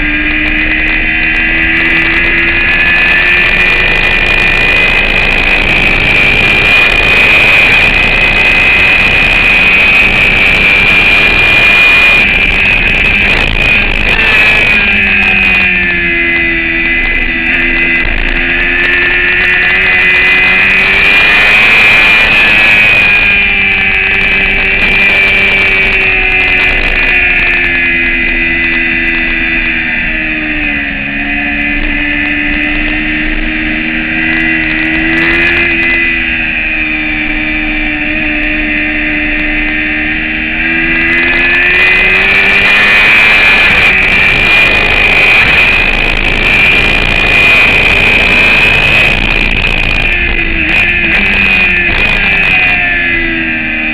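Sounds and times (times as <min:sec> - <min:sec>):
motorcycle engine at high revs: 0:00.0 - 0:53.9.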